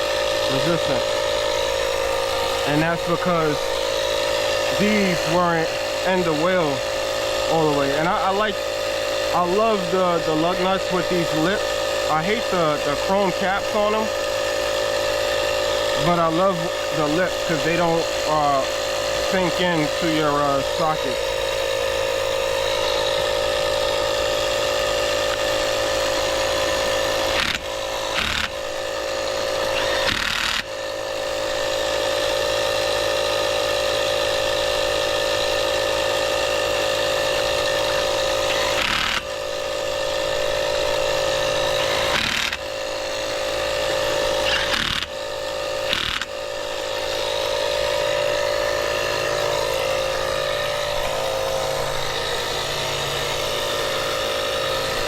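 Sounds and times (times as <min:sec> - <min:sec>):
electric air compressor motor running: 0:00.0 - 0:55.0.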